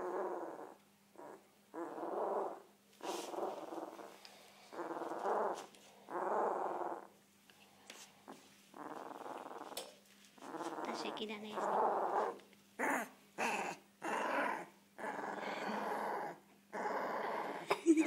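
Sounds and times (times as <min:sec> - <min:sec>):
puppy making rough vocal sounds: 0:00.0 - 0:07.1, 0:10.4 - 0:17.7.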